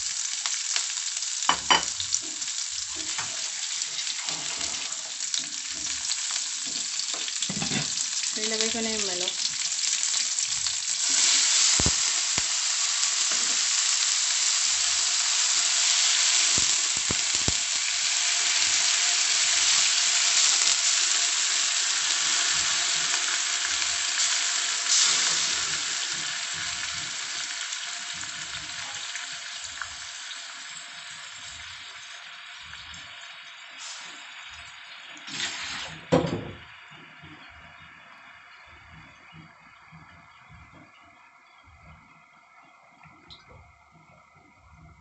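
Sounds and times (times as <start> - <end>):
chicken sizzling in hot oil: 0.0 - 39.7.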